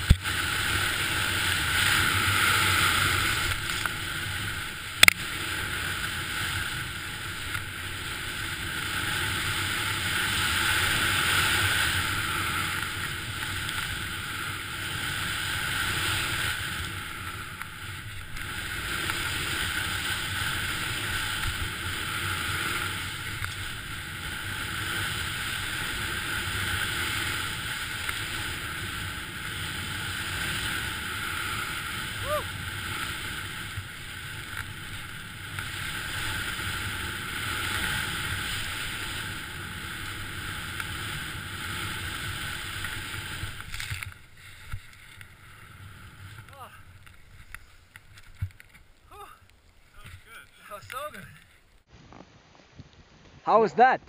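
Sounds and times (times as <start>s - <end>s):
skis hissing through powder snow: 0.0s - 51.9s.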